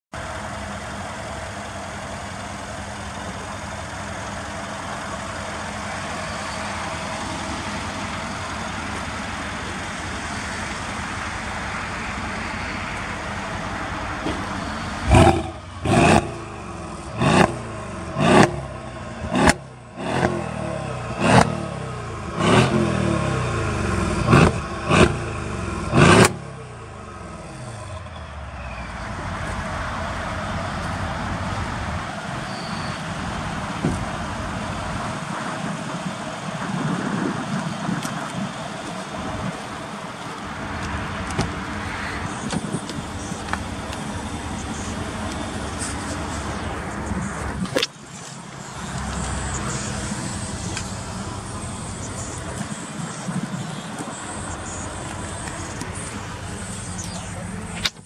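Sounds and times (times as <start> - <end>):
car engine idling and revving: 0.1 - 58.0.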